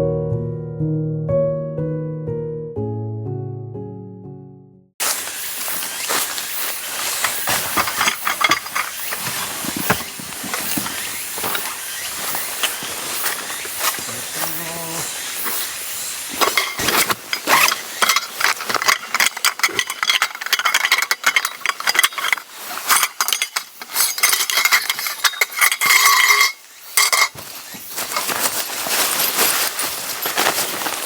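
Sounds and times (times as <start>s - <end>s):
metal objects clinking: 5.0s - 31.0s.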